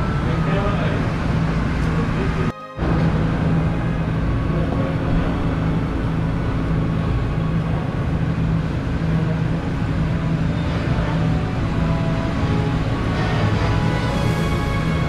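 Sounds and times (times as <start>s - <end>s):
constant rushing noise: 0.0s - 15.0s
low mechanical hum: 0.0s - 15.0s.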